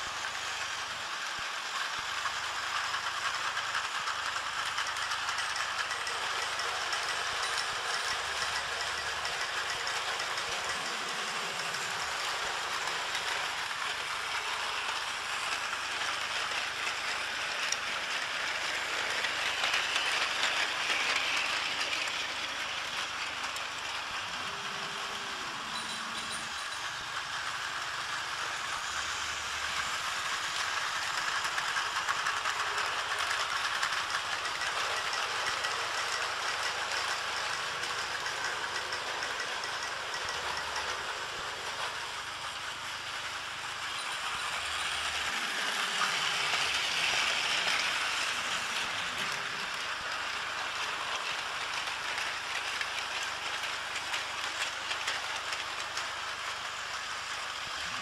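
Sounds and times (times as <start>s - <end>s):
toy trains whirring and rattling: 0.0s - 58.0s.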